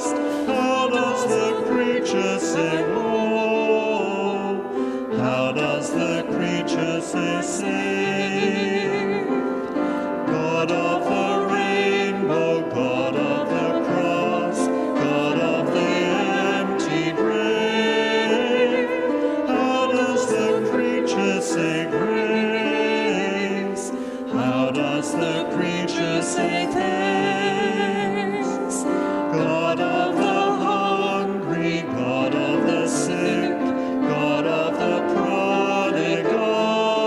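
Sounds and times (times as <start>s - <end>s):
congregation singing a hymn: 0.0s - 37.0s.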